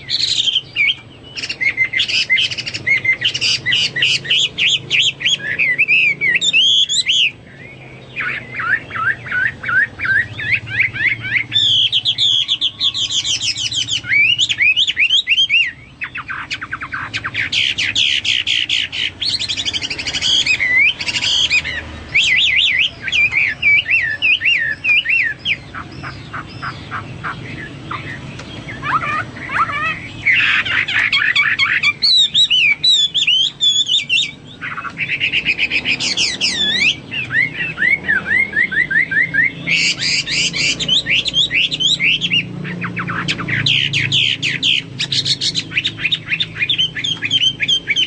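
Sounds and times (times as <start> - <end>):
bird singing whistled notes: 0.0 - 48.0.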